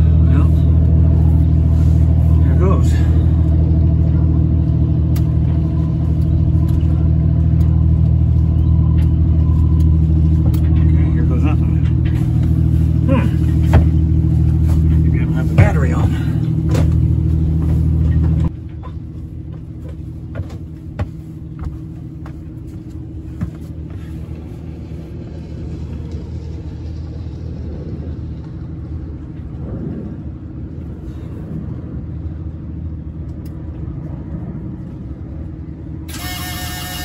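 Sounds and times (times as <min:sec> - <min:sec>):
diesel engine turning over: 0:00.0 - 0:30.7, 0:36.0 - 0:37.0
low steady rumble: 0:00.0 - 0:37.0.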